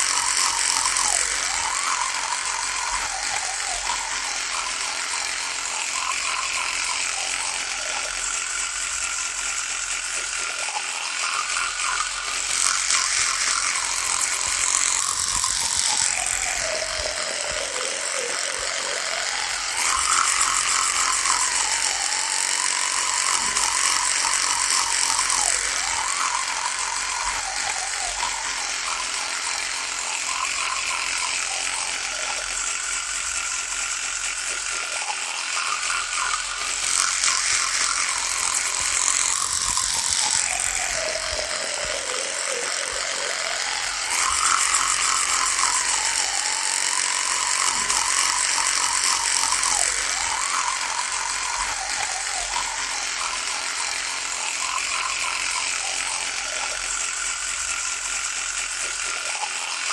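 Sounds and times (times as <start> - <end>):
electric toothbrush buzzing: 0.0 - 59.9.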